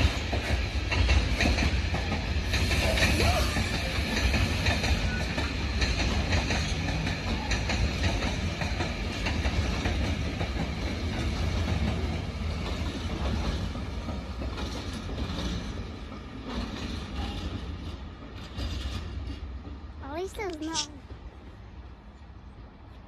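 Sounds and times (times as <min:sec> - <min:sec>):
wheels clacking over rail joints: 0:00.0 - 0:20.3
train wagons rumbling past: 0:00.0 - 0:22.9.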